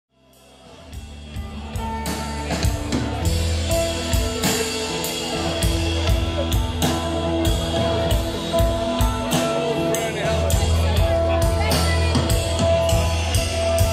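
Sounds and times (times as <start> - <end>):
drums: 0.1 - 13.9
electric guitar: 0.2 - 13.9
low bass notes: 0.2 - 13.9.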